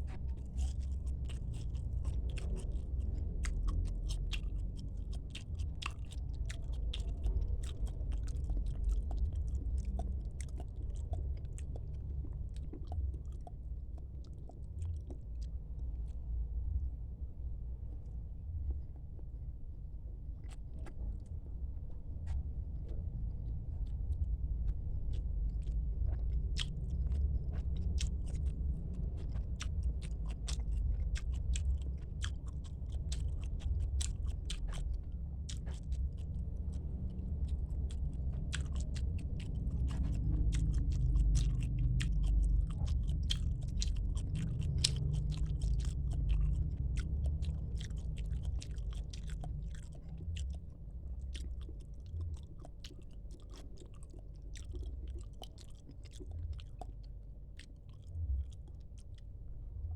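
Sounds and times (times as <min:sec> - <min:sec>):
crunchy chewing: 0:00.0 - 0:16.8, 0:20.2 - 0:59.9
low rumble: 0:00.0 - 0:59.9.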